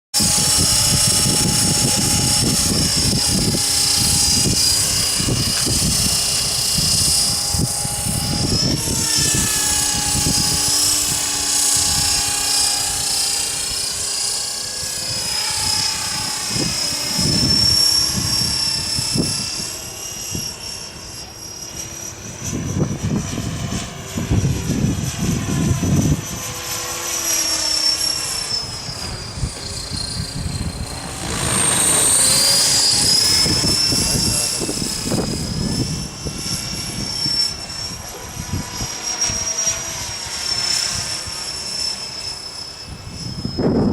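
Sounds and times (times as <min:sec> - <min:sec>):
helicopter motor and rotor whine: 0:00.1 - 0:43.9
wind buffeting microphone: 0:00.2 - 0:27.2, 0:28.2 - 0:41.6, 0:42.8 - 0:43.9.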